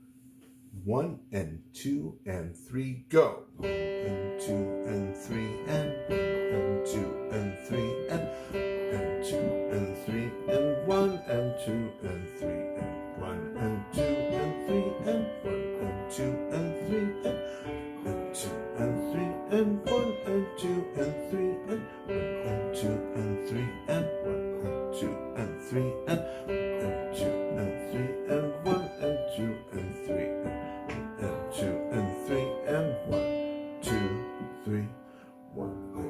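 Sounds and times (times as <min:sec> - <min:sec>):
digital piano playing gentle piece: 0:03.5 - 0:36.0.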